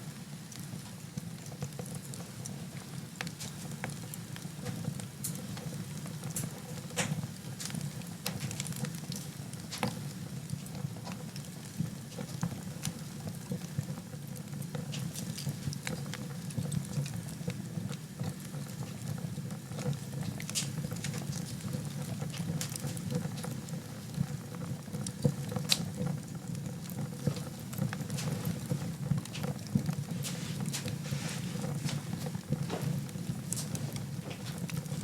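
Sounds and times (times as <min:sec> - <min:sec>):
flames rumbling: 0:00.5 - 0:35.0
wood fire crackling and popping: 0:00.5 - 0:35.0.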